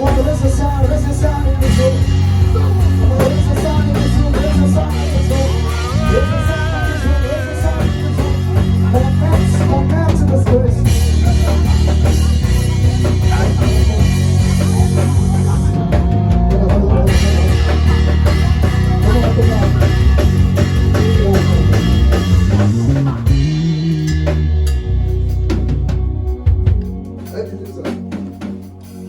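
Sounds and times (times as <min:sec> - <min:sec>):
person singing: 0:00.0 - 0:24.7
gospel band music: 0:00.0 - 0:29.0.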